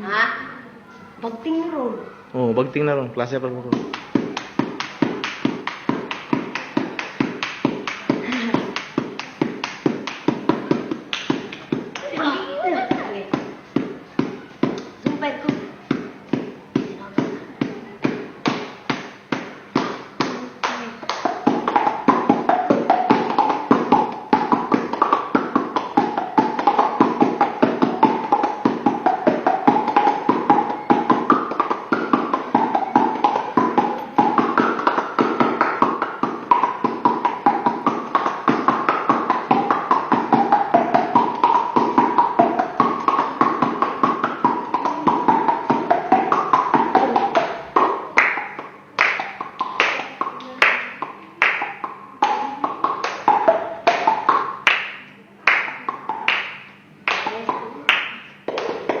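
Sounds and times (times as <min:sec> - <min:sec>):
melody of fast pitched taps: 0:03.6 - 0:59.0.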